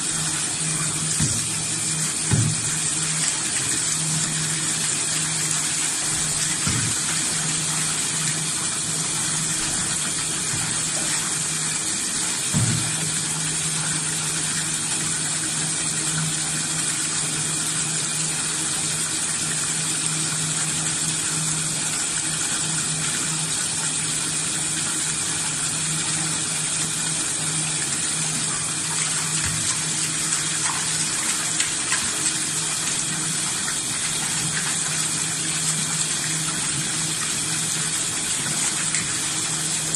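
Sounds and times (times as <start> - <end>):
tap water gushing into a tub: 0.0 - 39.9.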